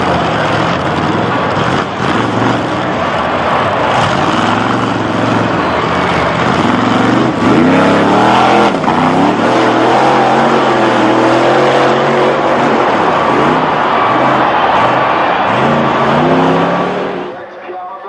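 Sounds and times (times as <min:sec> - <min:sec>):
truck engine revving: 0:00.0 - 0:17.5.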